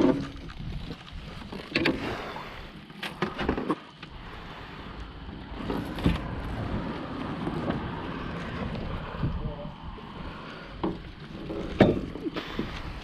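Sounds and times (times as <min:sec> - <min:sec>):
wind rumble on microphone: 0:00.0 - 0:02.8, 0:04.1 - 0:13.0.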